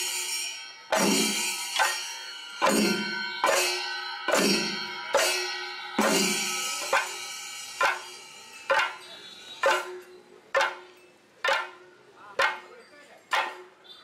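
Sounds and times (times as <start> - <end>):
struck metal percussion ringing: 0.0 - 13.8.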